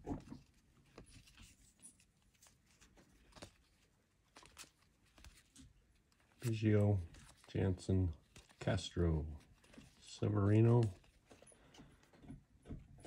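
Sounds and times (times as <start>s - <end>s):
cards clicking and rustling in hand: 0.1s - 12.2s.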